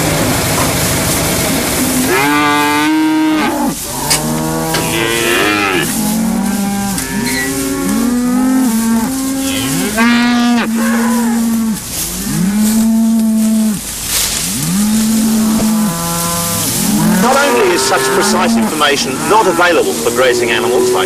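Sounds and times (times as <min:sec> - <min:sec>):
cattle mooing: 0:01.8 - 0:21.0.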